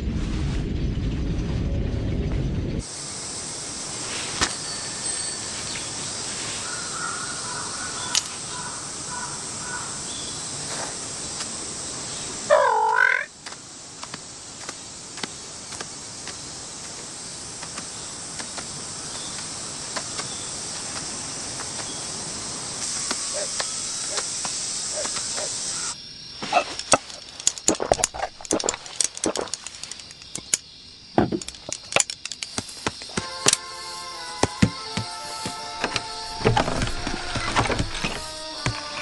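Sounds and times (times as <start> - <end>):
high insect drone: 2.8 - 39.0.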